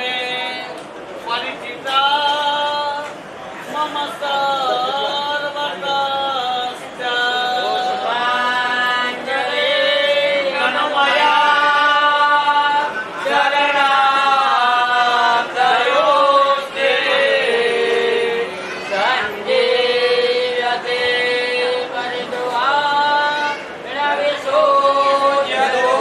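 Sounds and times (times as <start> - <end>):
mantra chanting: 3.7 - 26.0.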